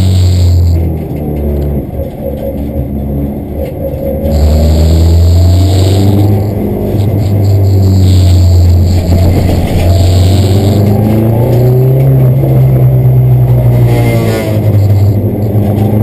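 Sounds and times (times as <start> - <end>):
race car engine accelerating: 0.0 - 16.0
rushing road noise: 0.0 - 16.0.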